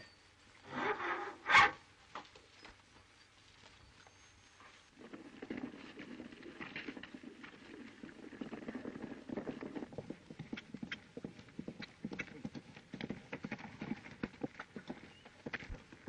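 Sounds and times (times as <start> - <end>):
horses galloping hooves: 1.9 - 16.0.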